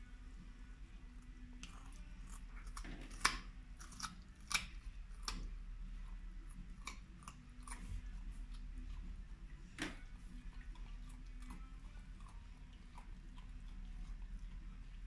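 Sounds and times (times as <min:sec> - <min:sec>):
dog crunching carrot: 0:01.2 - 0:15.0.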